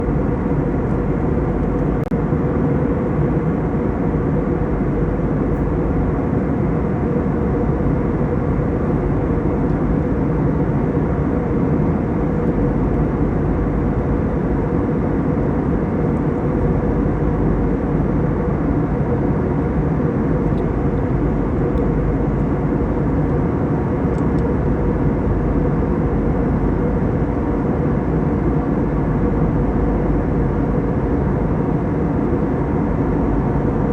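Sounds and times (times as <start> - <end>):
faint steady hum: 0.0 - 33.9
jet engine and airflow rush: 0.0 - 33.9.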